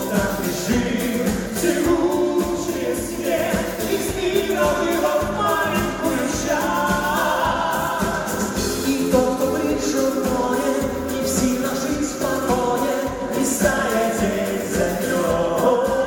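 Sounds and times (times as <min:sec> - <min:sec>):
instrumental backing: 0:00.0 - 0:16.0
song with held sung notes: 0:00.0 - 0:16.0.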